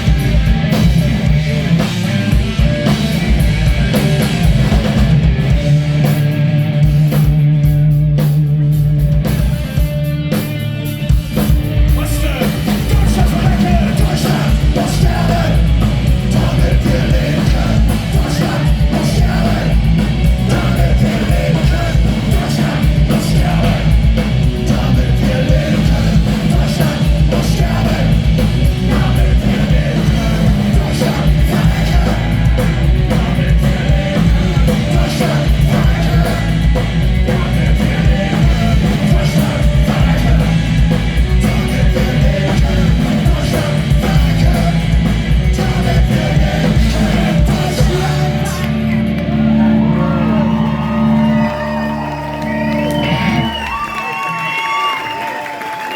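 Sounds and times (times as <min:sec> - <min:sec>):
bass guitar: 0:00.0 - 0:54.7
distorted electric guitars: 0:00.0 - 0:55.9
driving drums: 0:00.0 - 0:55.9.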